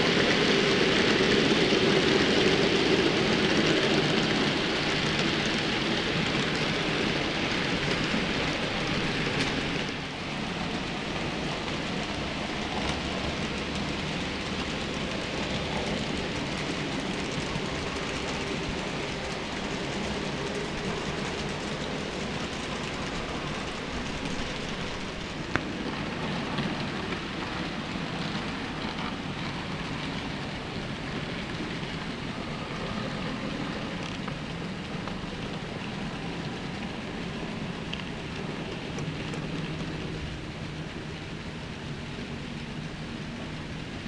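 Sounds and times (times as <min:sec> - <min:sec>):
model train wheels rattling on rails: 0:00.0 - 0:43.2.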